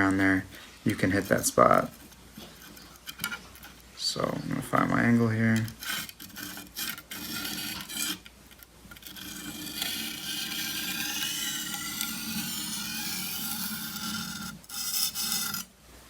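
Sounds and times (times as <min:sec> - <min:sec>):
knife scraping on whetstone: 0:00.0 - 0:03.9, 0:05.6 - 0:15.7.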